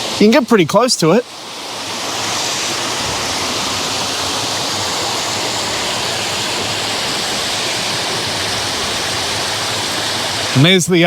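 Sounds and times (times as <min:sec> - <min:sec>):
fast-flowing water rushing: 0:00.0 - 0:11.0.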